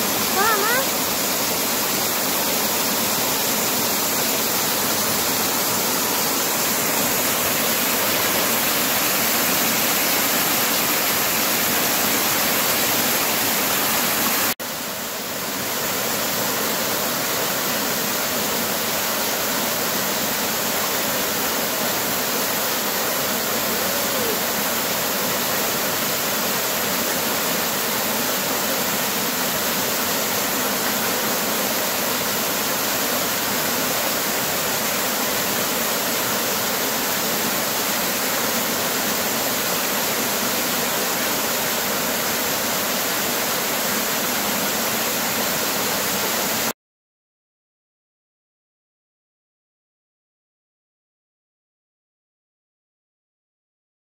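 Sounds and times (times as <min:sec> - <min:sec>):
waterfall rushing over rocks: 0:00.0 - 0:46.8.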